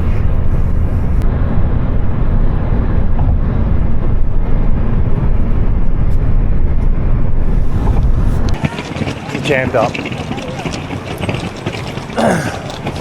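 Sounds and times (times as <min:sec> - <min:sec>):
road noise: 0:00.0 - 0:13.0
wind noise: 0:00.0 - 0:13.0.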